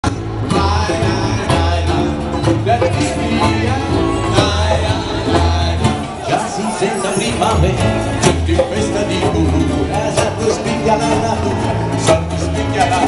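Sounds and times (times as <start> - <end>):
deep bass notes: 0.0 - 6.3, 7.3 - 13.0
live band playing: 0.0 - 13.0
person singing: 0.0 - 13.0.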